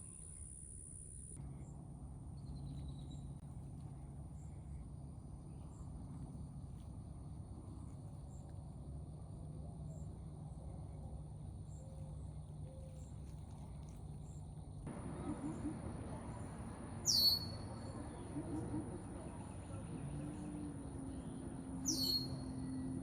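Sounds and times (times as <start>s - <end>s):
faint low hum: 0.0s - 23.0s
insects chirping: 4.3s - 23.0s.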